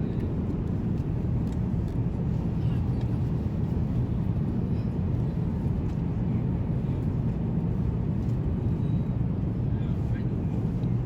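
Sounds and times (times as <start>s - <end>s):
jet cabin engine roar: 0.0s - 11.0s.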